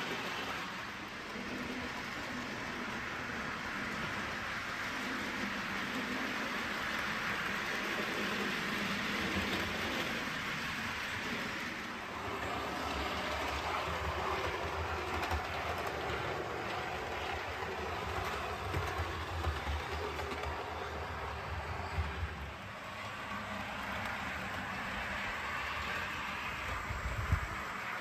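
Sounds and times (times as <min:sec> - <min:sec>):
model locomotive humming: 0:00.0 - 0:28.0
wheels clicking on rails: 0:00.0 - 0:28.0.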